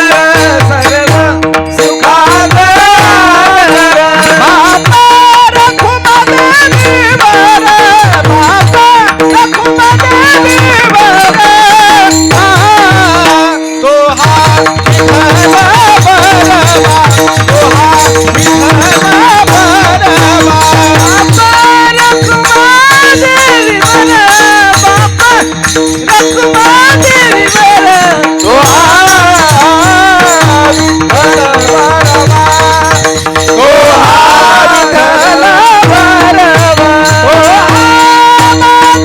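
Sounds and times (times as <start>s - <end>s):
hand drum rhythm: 0.0s - 39.0s
high voice singing: 0.0s - 39.0s
rattling percussion: 0.0s - 39.0s.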